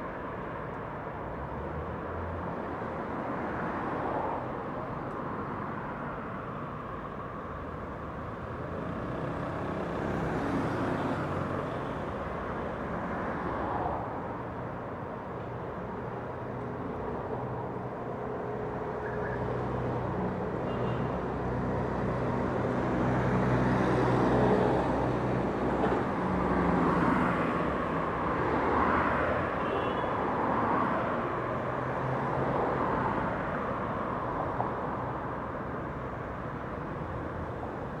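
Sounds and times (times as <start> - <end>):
background traffic noise: 0.0 - 38.0
cars and buses passing: 0.0 - 38.0.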